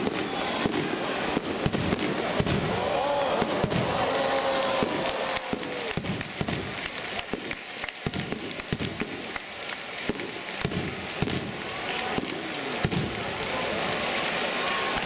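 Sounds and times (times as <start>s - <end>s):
fireworks crackling pops: 0.0s - 15.0s.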